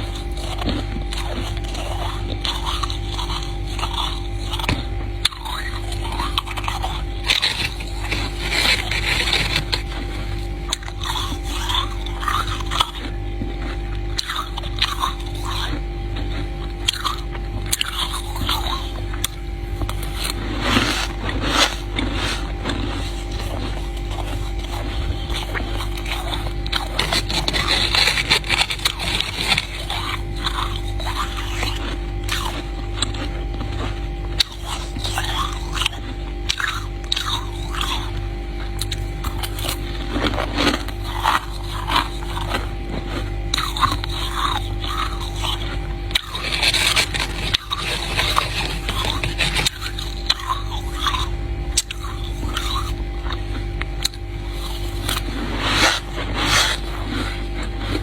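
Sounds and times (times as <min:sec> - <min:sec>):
ice being chewed: 0:00.0 - 0:58.0
steady low hum: 0:00.0 - 0:58.0.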